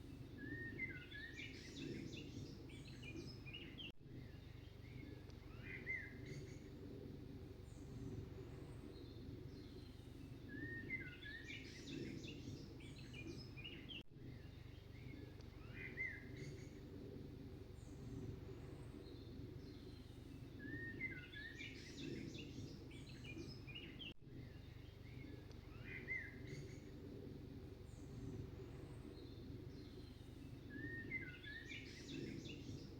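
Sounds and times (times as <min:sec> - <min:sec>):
birds chirping: 0:00.0 - 0:32.9
low steady rumble: 0:00.0 - 0:32.9.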